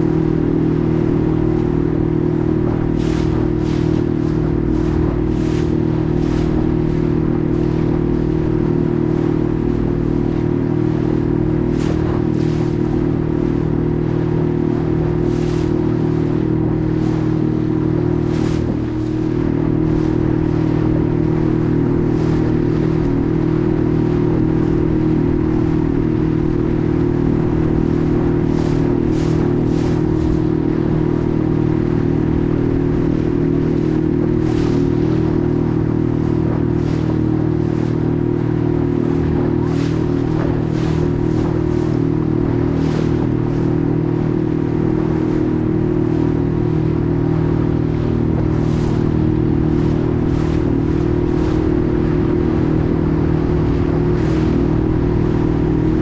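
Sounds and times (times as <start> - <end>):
boat engine droning: 0.0 - 56.0
water slapping against hull: 0.0 - 56.0.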